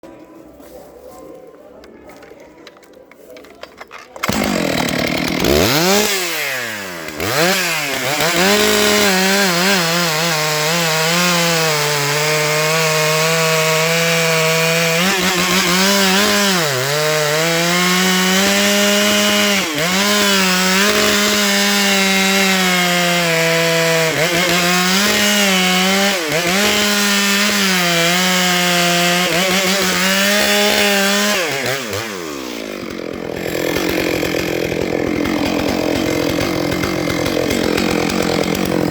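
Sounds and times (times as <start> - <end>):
chainsaw cutting log: 3.3 - 38.9.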